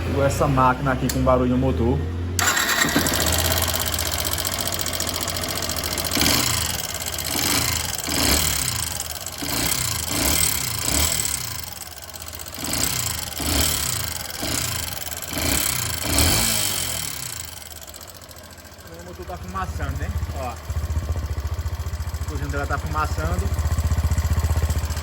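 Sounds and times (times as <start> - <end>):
motorcycle engine revving: 2.3 - 25.0.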